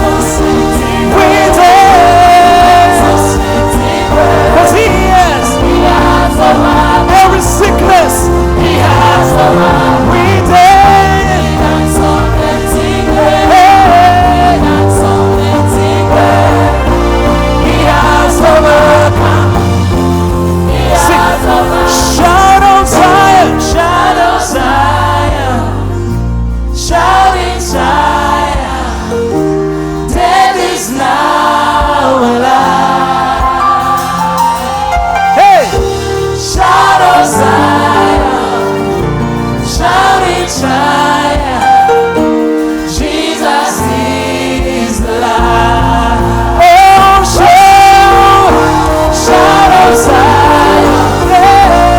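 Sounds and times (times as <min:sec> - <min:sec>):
band with steady bass: 0:00.0 - 0:51.9
choir singing: 0:00.0 - 0:51.9.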